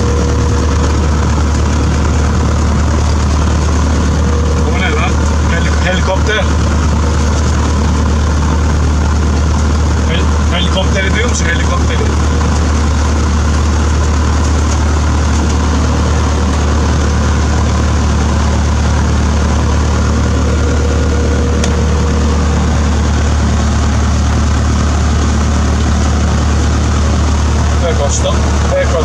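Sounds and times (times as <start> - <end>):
airplane engine droning: 0.0 - 29.0.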